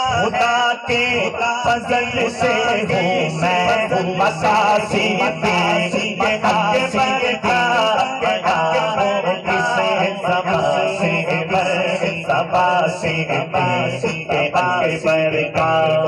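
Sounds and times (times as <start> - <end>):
man chanting into microphone: 0.0 - 16.0.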